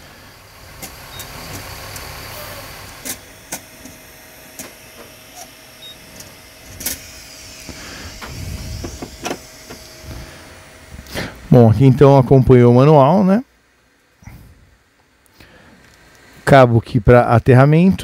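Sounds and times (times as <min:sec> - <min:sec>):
faint steady whine: 0:00.0 - 0:18.0
hot-air station blowing air: 0:00.0 - 0:18.0.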